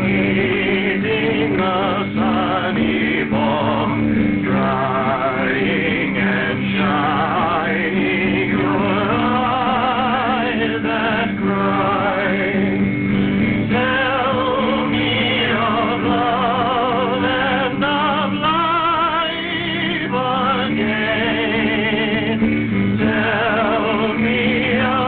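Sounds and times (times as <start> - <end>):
acoustic guitar: 0.0 - 25.0
man singing with vibrato: 0.0 - 25.0.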